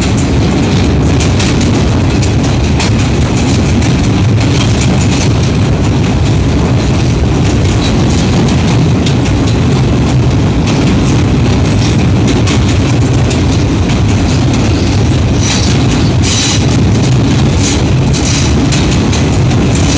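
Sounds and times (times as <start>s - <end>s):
sharp clicks and rattles: 0.0s - 19.9s
train wheels rumbling on track: 0.0s - 19.9s.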